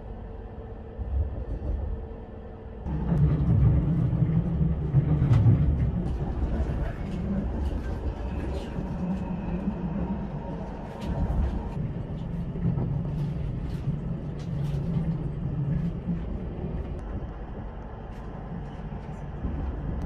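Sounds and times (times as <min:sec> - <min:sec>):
train rumble and hum: 0:00.0 - 0:20.0.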